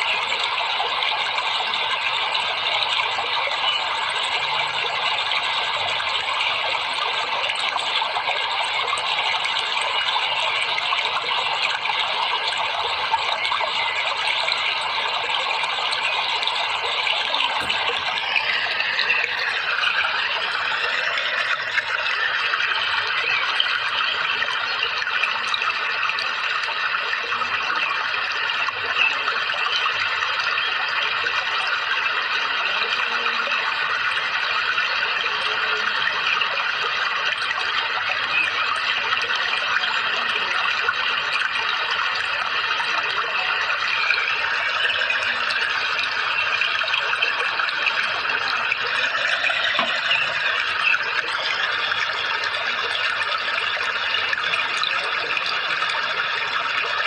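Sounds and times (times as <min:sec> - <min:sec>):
flowing water: 0:00.0 - 0:57.0.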